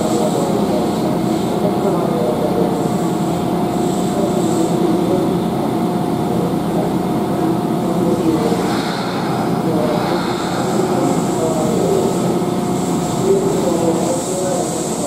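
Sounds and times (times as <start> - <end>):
train machine drone with whine: 0.0 - 15.0.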